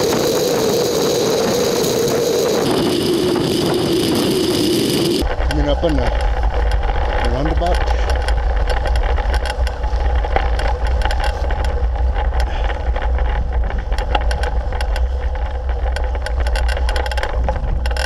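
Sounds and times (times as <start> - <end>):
bicycle riding noise: 0.0 - 18.0
small clicks and rattles: 0.0 - 18.0
wind buffeting microphone: 0.0 - 18.0.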